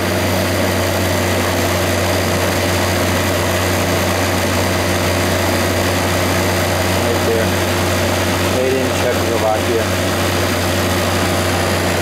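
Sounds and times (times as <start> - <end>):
refrigeration compressor humming: 0.0 - 12.0.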